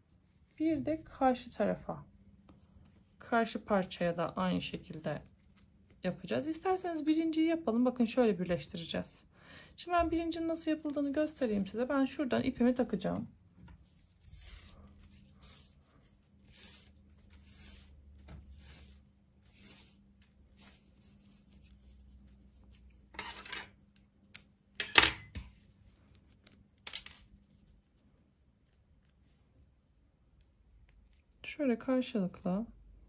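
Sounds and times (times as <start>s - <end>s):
paper yarn rustling and crinkling: 0.0s - 7.8s, 10.0s - 24.3s, 25.5s - 31.5s.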